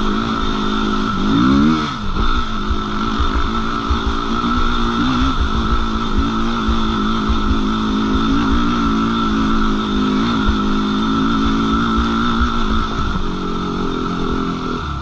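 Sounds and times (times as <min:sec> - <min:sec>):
quad engine running hard: 0:00.0 - 0:15.0.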